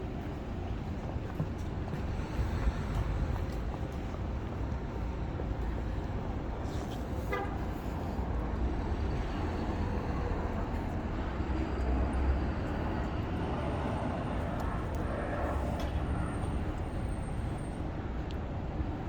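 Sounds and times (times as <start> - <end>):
road traffic rumble: 0.1 - 19.0.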